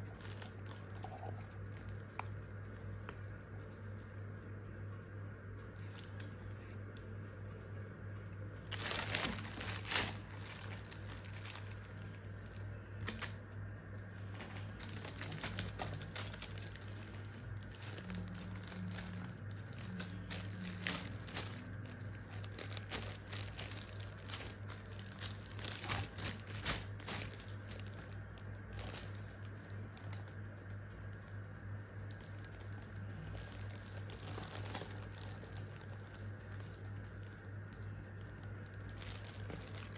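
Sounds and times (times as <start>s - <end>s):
plastic bag crinkling: 0.0s - 4.5s, 5.6s - 39.9s
low hum: 0.0s - 39.9s.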